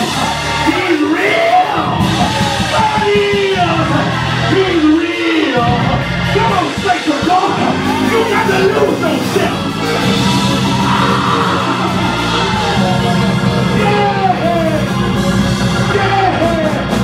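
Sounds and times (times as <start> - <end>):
church band with keyboard: 0.0 - 17.0
preacher yelling and singing: 0.0 - 17.0.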